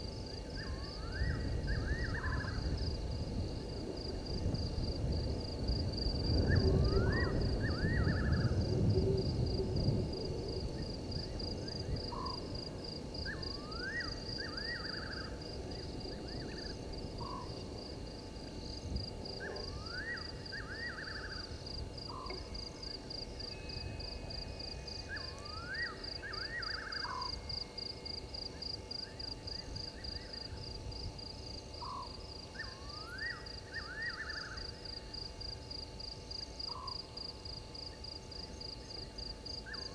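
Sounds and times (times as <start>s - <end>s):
insect trill: 0.0s - 39.9s.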